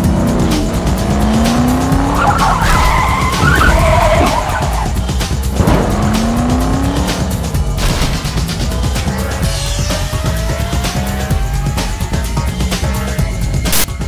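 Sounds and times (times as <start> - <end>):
tires squealing: 0.0 - 13.3
car engine accelerating: 0.0 - 13.9
music with a steady beat: 0.0 - 14.0.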